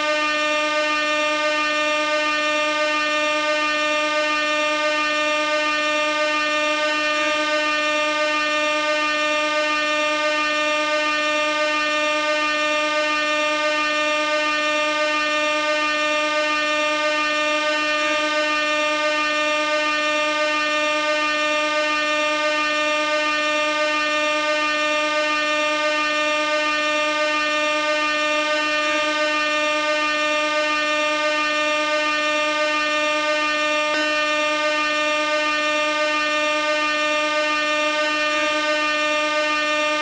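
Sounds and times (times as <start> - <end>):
air horn blast: 0.0 - 40.0.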